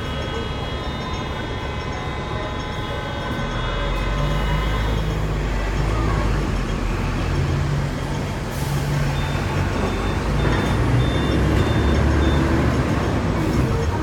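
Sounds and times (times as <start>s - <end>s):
road traffic: 0.0s - 14.0s
tram rumbling on rails: 0.0s - 14.0s.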